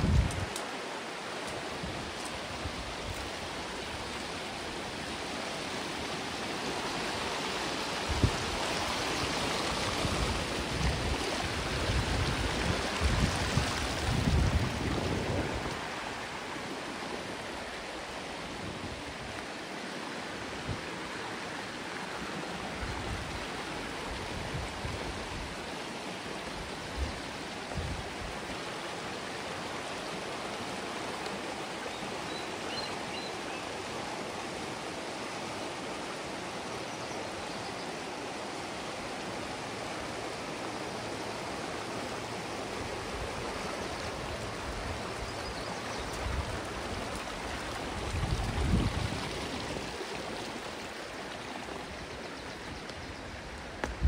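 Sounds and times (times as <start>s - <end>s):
creek water running: 0.0s - 54.0s.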